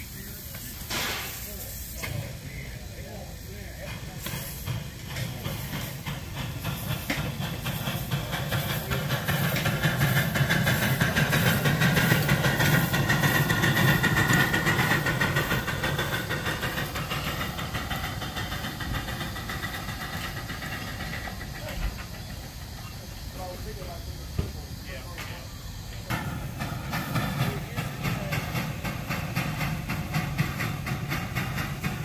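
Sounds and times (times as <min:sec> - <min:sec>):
steam locomotive exhaust beats: 0:00.0 - 0:32.0
wheels rolling on rails: 0:03.5 - 0:32.0.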